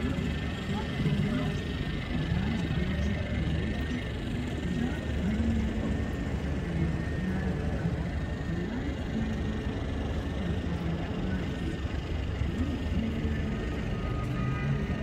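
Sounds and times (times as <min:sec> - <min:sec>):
distant traffic rumble: 0:00.0 - 0:15.0
faint voices: 0:00.0 - 0:15.0.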